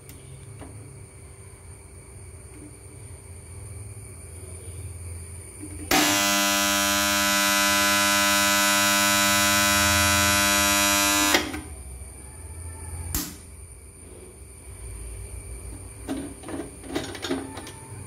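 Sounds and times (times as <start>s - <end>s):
contactor buzzing mains hum: 0.0s - 18.0s.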